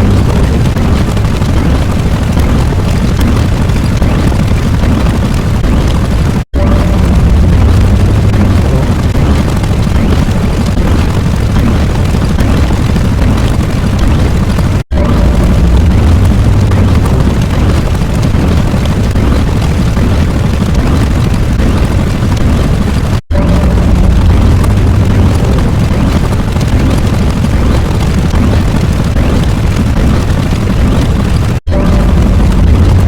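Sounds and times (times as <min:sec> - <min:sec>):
loud steady rumbling: 0:00.0 - 0:33.0.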